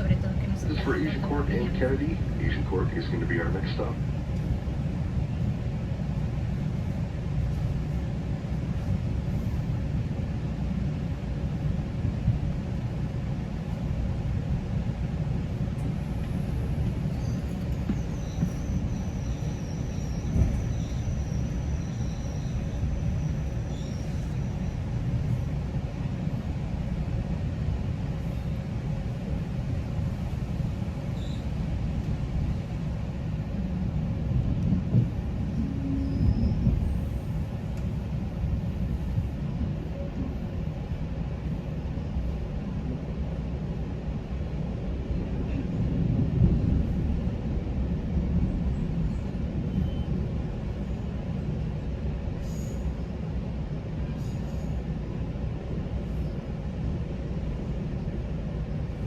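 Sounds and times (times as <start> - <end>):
train rumbling along: 0.0 - 59.0.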